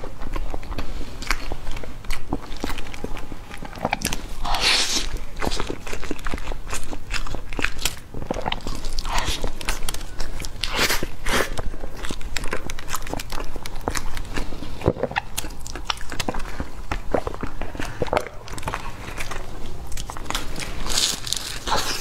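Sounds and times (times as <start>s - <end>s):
pastry crunching while chewing: 0.0s - 22.0s.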